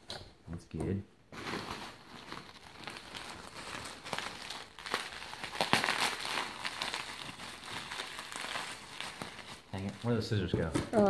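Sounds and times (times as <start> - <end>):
bubble wrap crinkling: 1.3 - 11.0.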